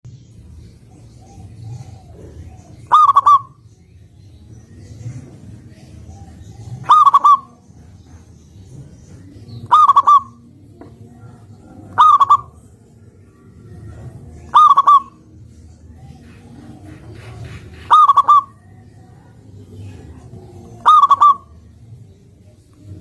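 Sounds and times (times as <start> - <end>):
dove cooing trilled call: 0.8 - 4.0, 5.1 - 22.2.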